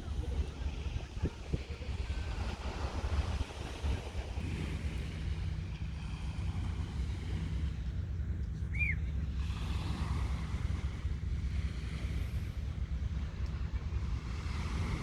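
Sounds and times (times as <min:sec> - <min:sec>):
surf hissing on beach: 0:00.0 - 0:07.8, 0:08.7 - 0:15.0
wind buffeting microphone: 0:00.0 - 0:15.0.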